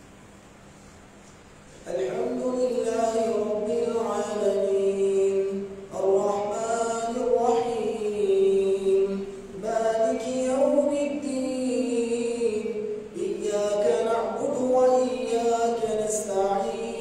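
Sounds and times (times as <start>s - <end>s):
man chanting melodically: 1.8s - 17.0s.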